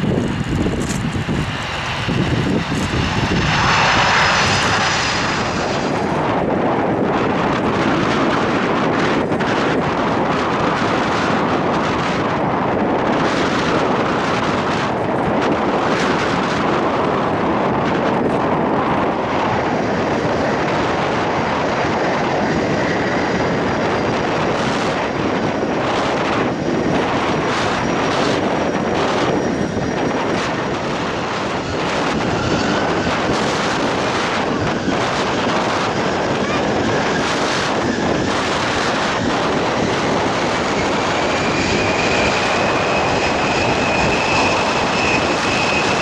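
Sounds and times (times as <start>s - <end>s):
jet engines roaring: 0.0s - 46.0s
wind buffeting microphone: 0.0s - 46.0s.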